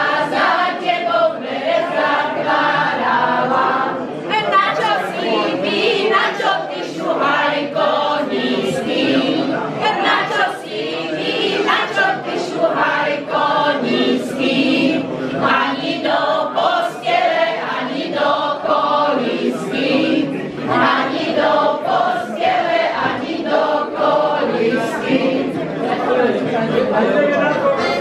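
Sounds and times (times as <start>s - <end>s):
group singing a folk song: 0.0s - 28.0s.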